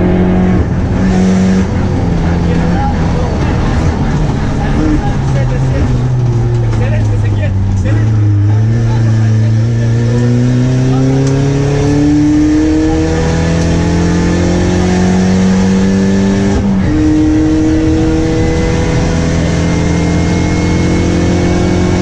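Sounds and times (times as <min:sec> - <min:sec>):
car engine running under load: 0:00.0 - 0:22.0.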